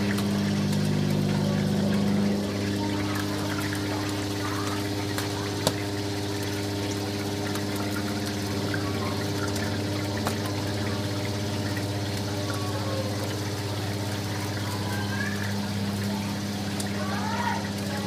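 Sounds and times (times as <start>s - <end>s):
hot oil pouring: 0.0s - 18.0s
oil pump humming: 0.0s - 18.0s.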